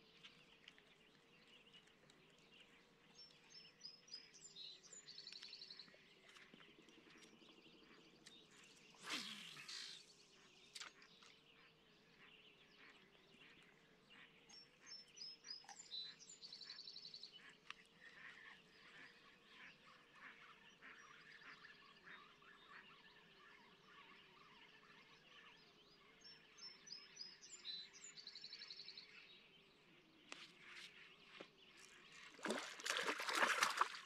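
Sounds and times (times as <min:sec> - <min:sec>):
songbirds calling: 0:00.0 - 0:34.0.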